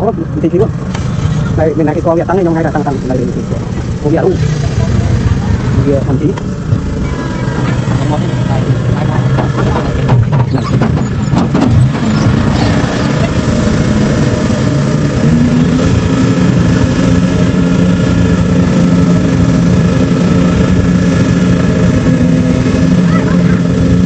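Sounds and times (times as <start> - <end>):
combine harvester diesel engine: 0.0 - 24.0.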